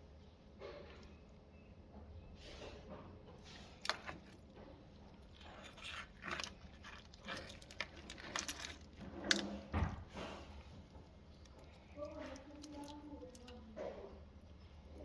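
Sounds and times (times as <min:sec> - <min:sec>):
handling rustles and scrapes: 0:00.1 - 0:15.0.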